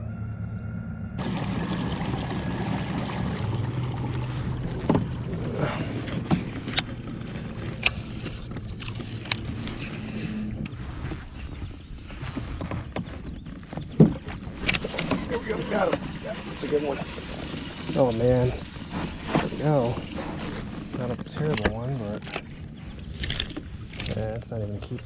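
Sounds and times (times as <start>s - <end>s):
water rushing along kayak hull: 1.2s - 25.0s.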